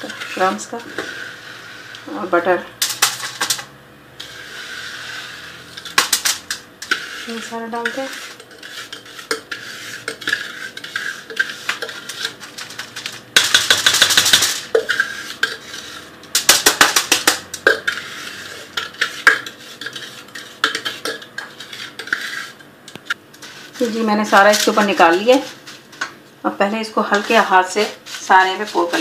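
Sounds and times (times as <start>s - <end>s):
utensil scraping glass bowl: 0.0s - 2.5s, 4.2s - 22.7s, 23.3s - 26.1s, 26.7s - 29.0s.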